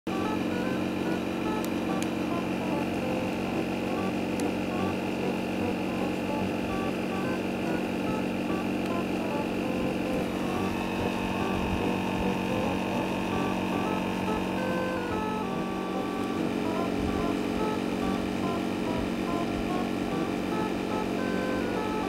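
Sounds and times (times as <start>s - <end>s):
comical electronic background music: 0.1s - 22.0s.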